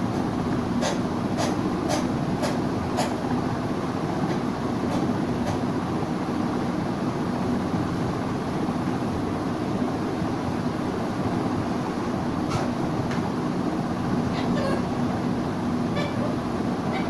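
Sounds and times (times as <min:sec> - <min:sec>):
mechanical hum and rumble: 0:00.0 - 0:17.0.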